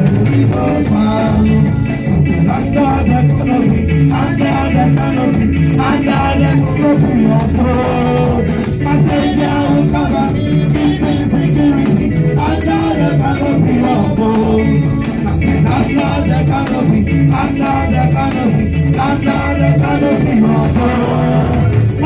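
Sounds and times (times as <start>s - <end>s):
keyboard and drums: 0.0s - 22.0s.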